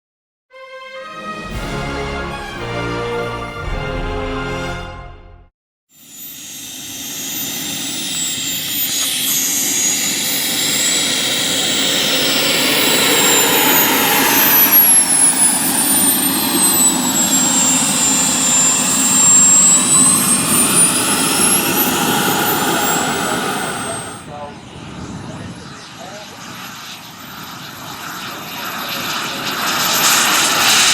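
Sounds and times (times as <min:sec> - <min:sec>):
high-pitched turbine whine: 0:06.0 - 0:30.9
model jet turbine roar: 0:06.0 - 0:30.9.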